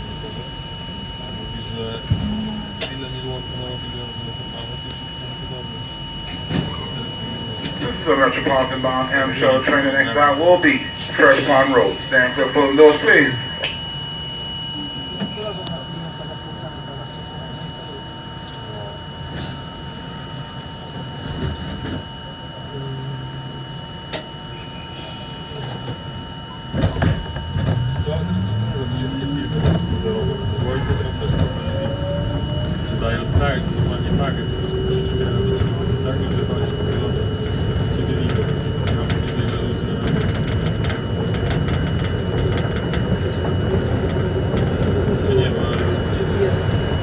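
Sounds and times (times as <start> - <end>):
steady electrical hum: 0.0 - 47.0
whining tones from train equipment: 0.0 - 47.0.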